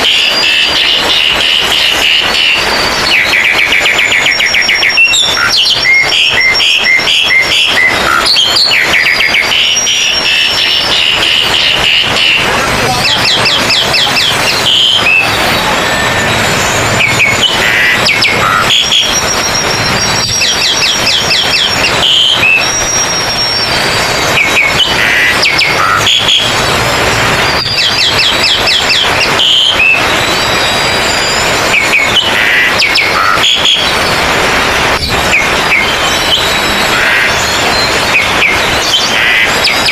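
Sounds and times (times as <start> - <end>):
birds singing trills and chirps: 0.0 - 39.9
dense background noise: 0.0 - 39.9.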